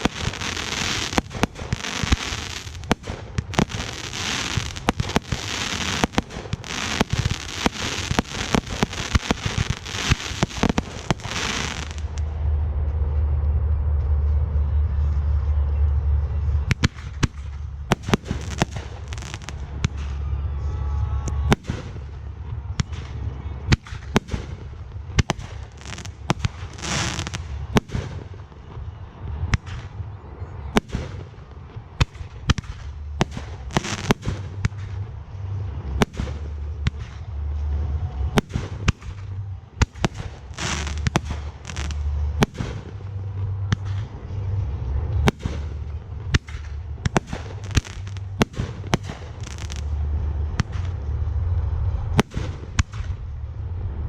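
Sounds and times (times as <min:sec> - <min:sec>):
fireworks bangs: 0:00.0 - 0:12.4, 0:16.7 - 0:53.5
low rumble: 0:00.0 - 0:54.0.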